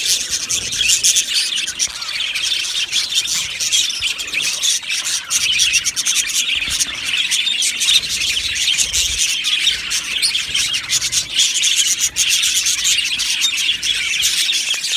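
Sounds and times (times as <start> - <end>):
budgerigars chattering: 0.0 - 14.9.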